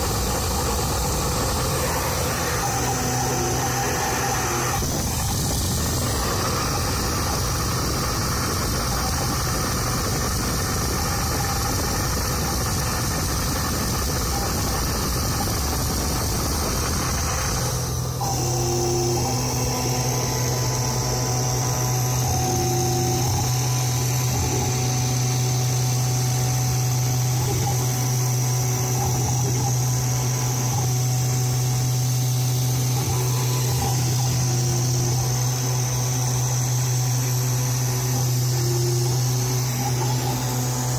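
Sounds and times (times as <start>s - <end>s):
router spindle motor milling: 0.0s - 40.9s
stepper motors driving: 0.0s - 40.9s.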